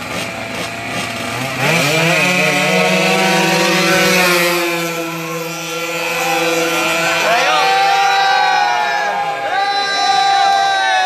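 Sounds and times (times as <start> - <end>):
scooter engines at full throttle: 0.0 - 11.0.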